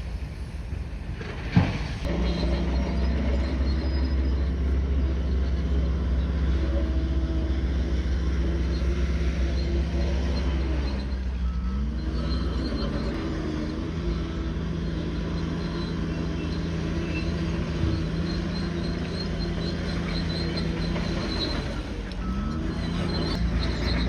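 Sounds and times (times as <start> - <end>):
bulldozer diesel engine under load: 0.0 - 24.0.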